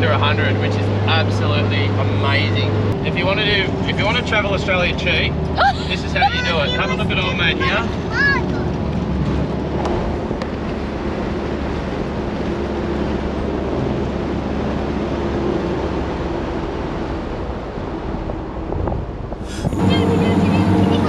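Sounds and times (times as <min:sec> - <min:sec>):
engine drone: 0:00.0 - 0:21.0
road and wind noise: 0:00.0 - 0:21.0.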